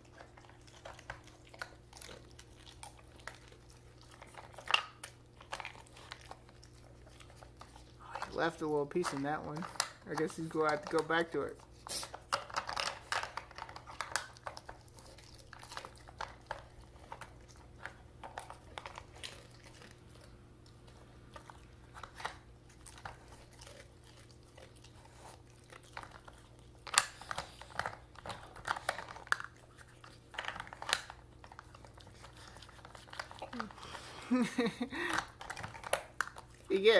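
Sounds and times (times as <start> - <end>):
dog chewing treats: 0.0 - 36.9.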